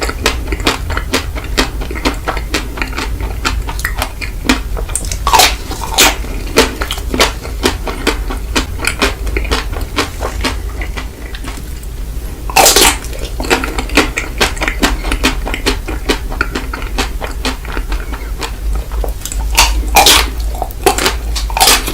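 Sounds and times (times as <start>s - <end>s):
person biting and chewing: 0.0s - 21.9s
steady low hum: 0.0s - 21.9s.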